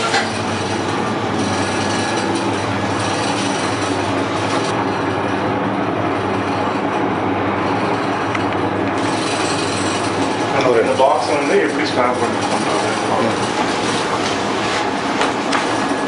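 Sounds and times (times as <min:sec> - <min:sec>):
strapping machine motor hum: 0:00.0 - 0:16.0.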